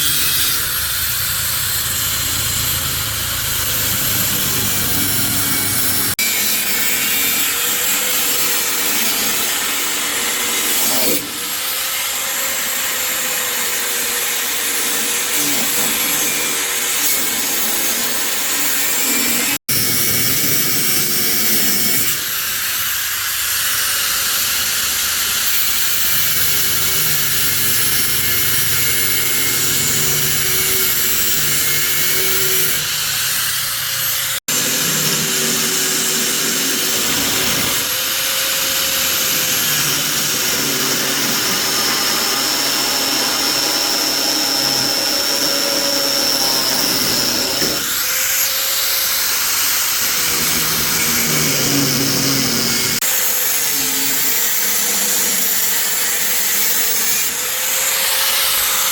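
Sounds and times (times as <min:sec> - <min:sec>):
power tool running: 0:00.0 - 0:58.9.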